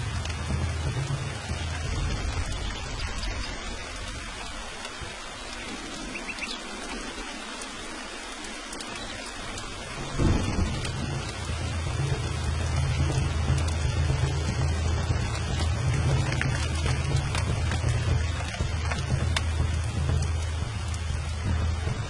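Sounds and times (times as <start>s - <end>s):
steady rain falling: 0.0s - 22.0s
thunder rumbling: 0.0s - 22.0s.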